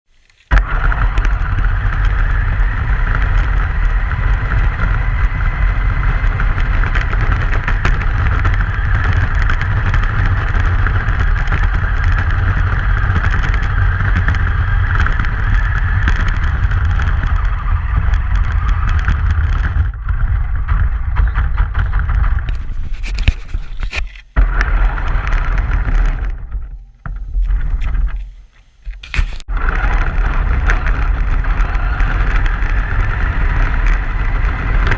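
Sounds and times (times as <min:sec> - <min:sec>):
truck engine and road rumble: 0:00.1 - 0:34.9.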